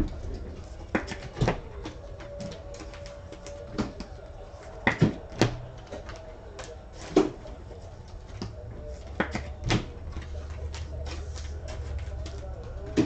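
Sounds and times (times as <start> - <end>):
cards and boxes handled on table: 0.0 - 13.0.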